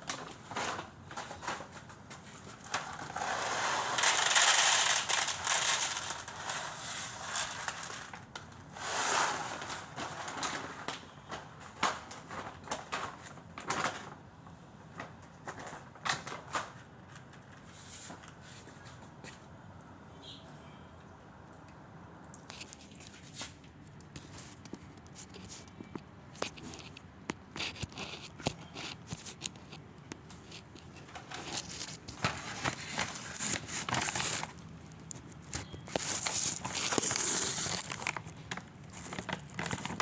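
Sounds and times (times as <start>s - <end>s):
rustling and crinkling: 0.0s - 19.5s, 22.3s - 40.0s.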